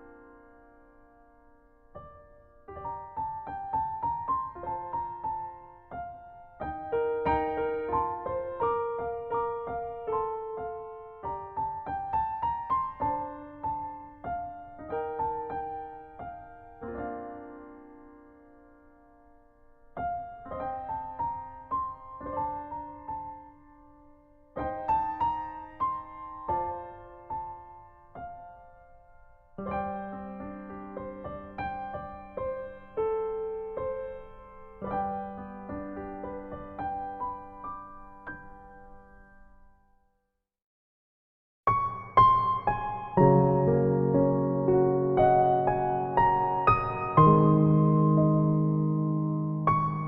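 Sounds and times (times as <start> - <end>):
gentle piano melody: 0.0 - 40.1, 41.7 - 50.0.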